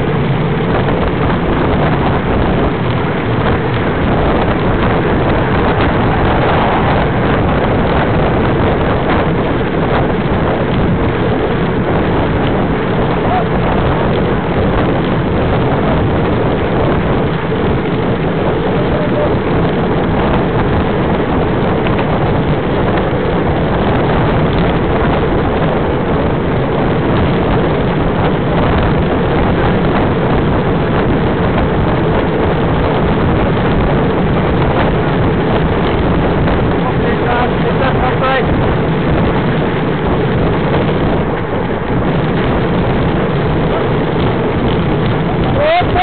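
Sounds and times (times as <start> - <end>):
bike tyre and road noise: 0.0 - 46.0
wind on microphone: 0.0 - 46.0.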